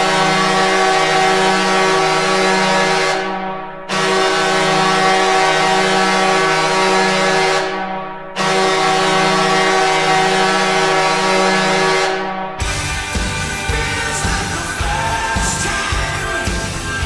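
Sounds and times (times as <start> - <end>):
goal horn blasts: 0.0 - 14.3.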